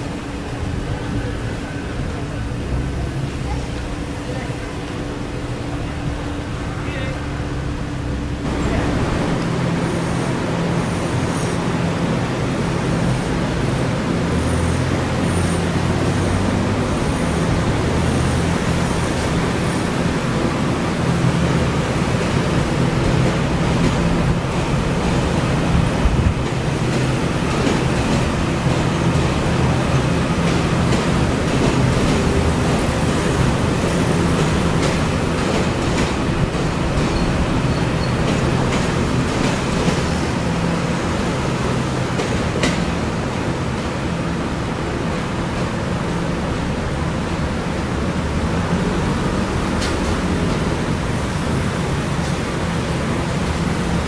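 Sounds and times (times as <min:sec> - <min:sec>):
train low hum: 0:00.0 - 0:54.0
train rushing noise: 0:00.0 - 0:54.0.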